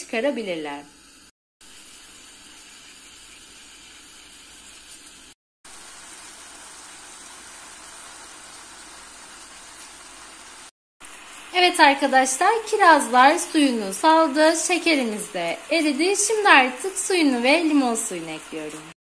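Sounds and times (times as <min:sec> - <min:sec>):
fruit and sugar sizzling in a pan: 0:00.0 - 0:19.0.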